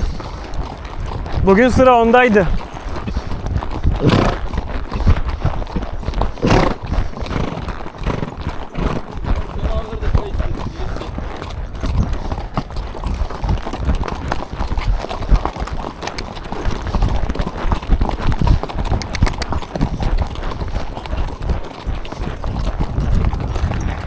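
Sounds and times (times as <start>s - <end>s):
horse hooves clip-clopping: 0.0s - 24.0s.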